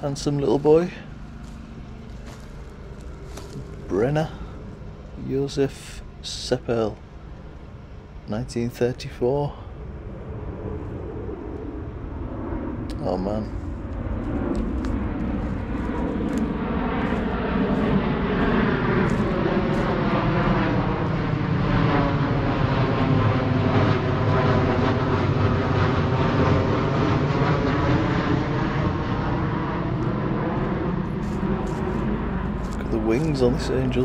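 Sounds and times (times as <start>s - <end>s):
airplane flying overhead: 0.0s - 34.0s.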